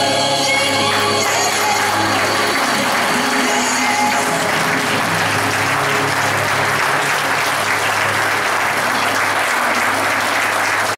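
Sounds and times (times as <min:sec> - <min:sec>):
congregation clapping: 0:00.4 - 0:10.9.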